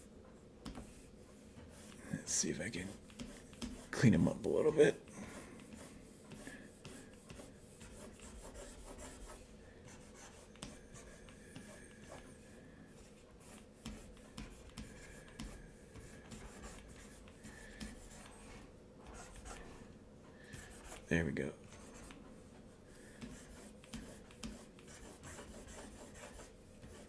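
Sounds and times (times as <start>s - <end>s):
stylus scratching on tablet: 0.6s - 19.8s, 20.5s - 27.0s.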